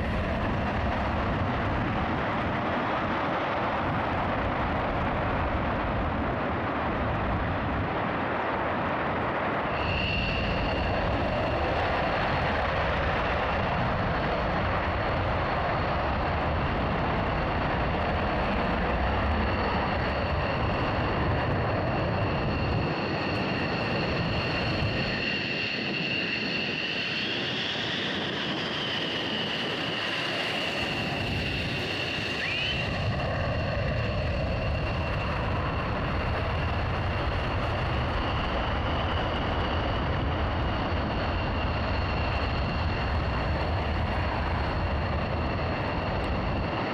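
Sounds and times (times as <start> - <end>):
jet afterburner roar: 0.0 - 46.9
jet turbine whine: 0.0 - 46.9.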